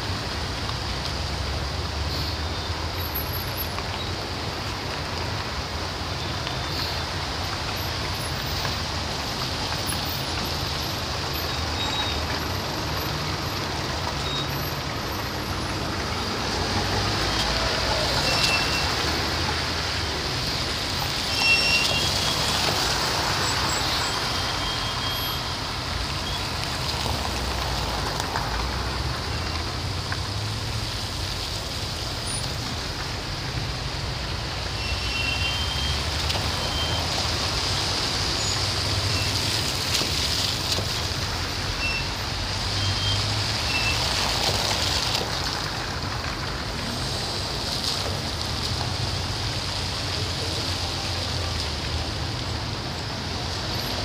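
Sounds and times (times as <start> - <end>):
tyres hissing on wet asphalt: 0.0 - 54.0.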